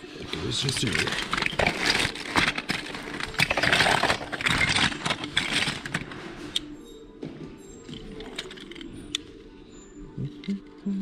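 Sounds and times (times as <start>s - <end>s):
plastic toys clattering: 0.0s - 6.8s, 7.6s - 10.8s.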